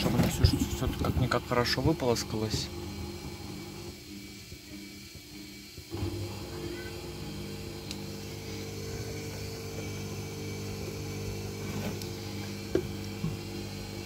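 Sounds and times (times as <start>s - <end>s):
washing machine drum humming: 0.0s - 14.0s.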